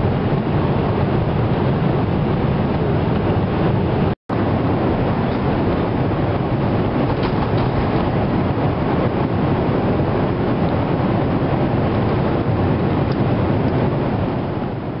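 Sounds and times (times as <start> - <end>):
jet engines and airflow in cabin: 0.0 - 15.0.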